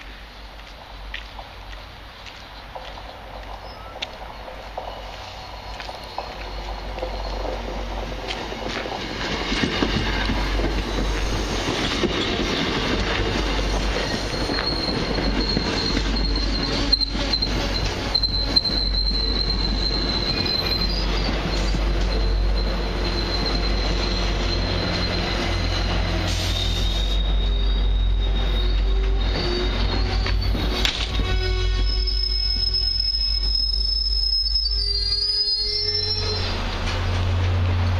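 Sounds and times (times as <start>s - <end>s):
train wheels clicking and rumbling: 0.0s - 37.9s
train brakes squealing: 3.6s - 37.9s.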